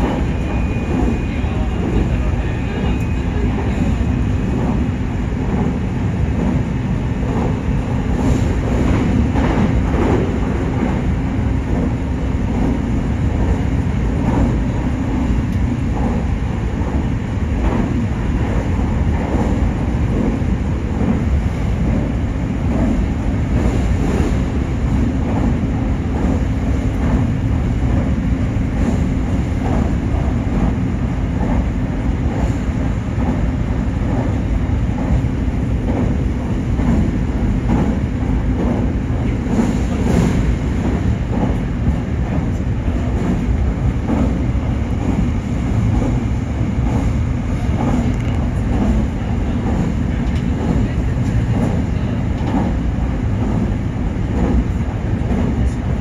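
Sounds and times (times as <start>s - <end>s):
rail joint clicks: 0.0s - 56.0s
train wheels rumbling on rail: 0.0s - 56.0s.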